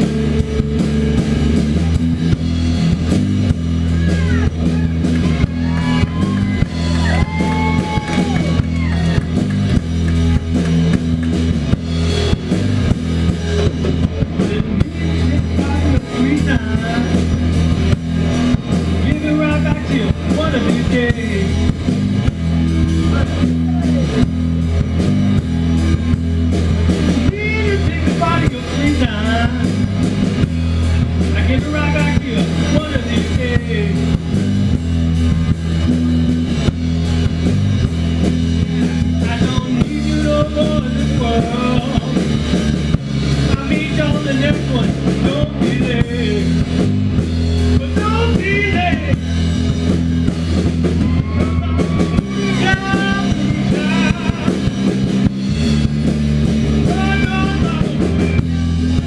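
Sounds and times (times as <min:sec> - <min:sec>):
bass line: 0:00.0 - 0:59.0
drum kit keeping time: 0:00.0 - 0:59.0
electric guitar lead: 0:00.0 - 0:59.0.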